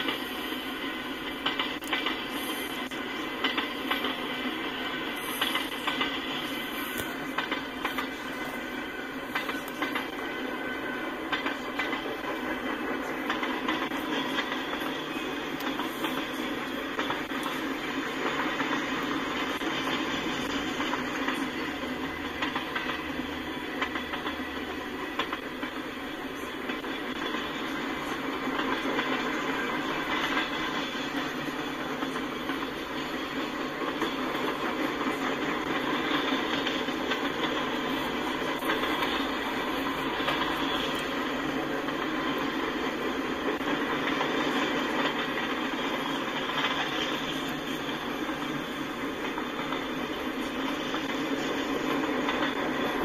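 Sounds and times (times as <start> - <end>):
freight cars rumbling on rails: 0.0 - 53.0.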